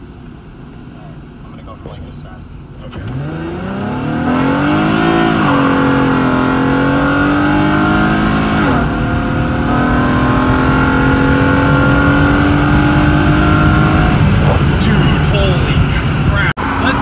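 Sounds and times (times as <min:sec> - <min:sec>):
car engine accelerating: 0:00.8 - 0:17.0.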